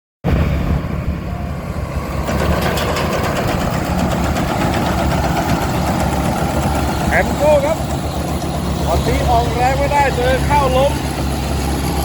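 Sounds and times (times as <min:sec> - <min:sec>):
diesel engine running under load: 0:00.3 - 0:12.0
rapid mechanical clatter: 0:02.2 - 0:12.0.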